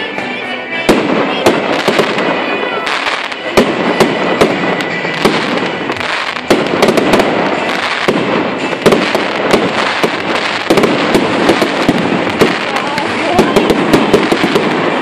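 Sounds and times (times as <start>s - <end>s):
continuous din: 0.0s - 15.0s
firework bangs: 0.0s - 15.0s.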